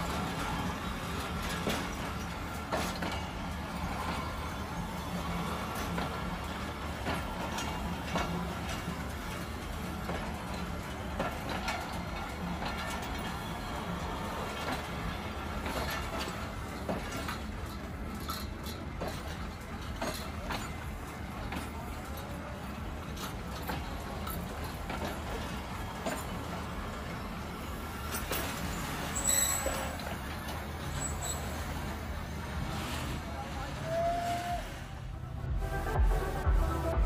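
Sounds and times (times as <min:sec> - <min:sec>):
train engine rumble: 0:00.0 - 0:37.0.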